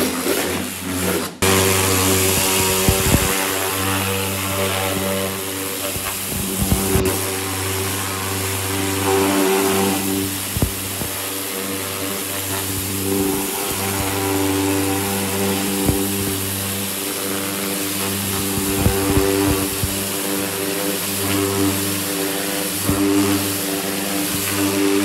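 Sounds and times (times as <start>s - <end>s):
pressure washer jet hissing: 0.0s - 25.0s
machine hum: 1.4s - 25.0s.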